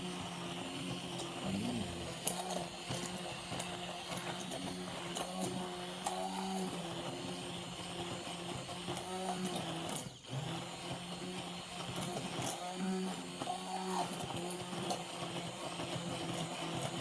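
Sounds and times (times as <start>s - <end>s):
electric kitchen mixer running: 0.0s - 17.0s.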